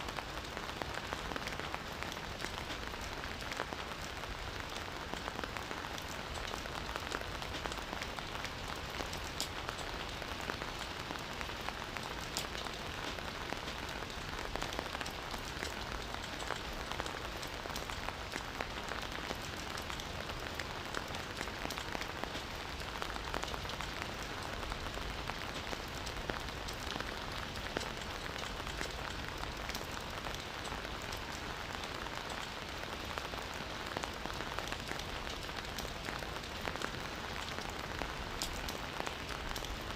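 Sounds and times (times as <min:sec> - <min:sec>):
rain hissing in forest: 0:00.0 - 0:39.9
raindrop clicks: 0:00.4 - 0:03.5, 0:04.7 - 0:32.6, 0:33.9 - 0:39.9.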